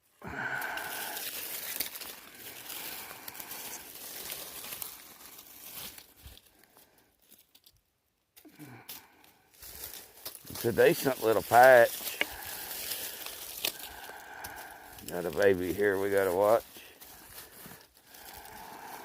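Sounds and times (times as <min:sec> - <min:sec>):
debris rustling and crackling: 0:00.0 - 0:19.0.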